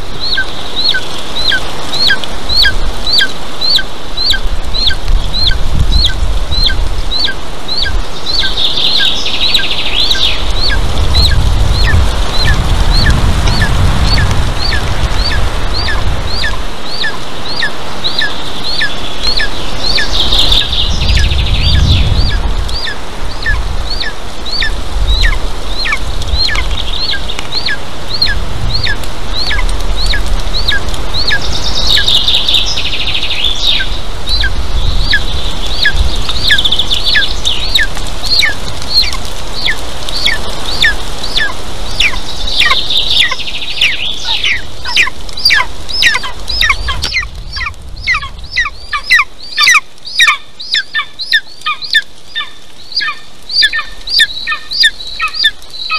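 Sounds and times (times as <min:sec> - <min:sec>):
wind rumble on microphone: 0:00.0 - 0:55.9
eagle chirping calls: 0:00.2 - 0:55.9.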